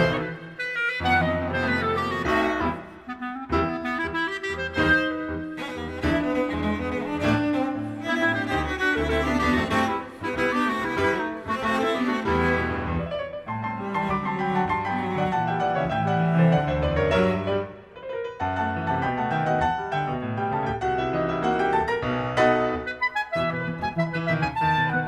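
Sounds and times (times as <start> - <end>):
piano with bowed strings: 0.0 - 25.0.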